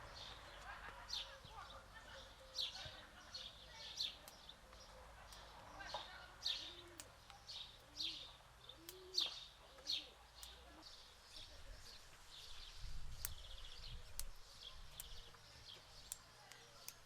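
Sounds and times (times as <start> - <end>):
soft low bird calls: 0.0 - 17.0.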